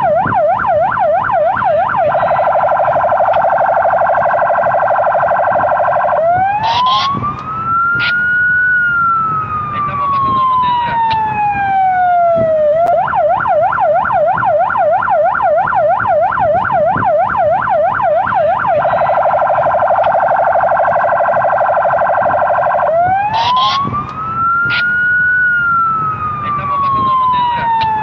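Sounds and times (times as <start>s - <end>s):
police car siren: 0.0s - 28.0s.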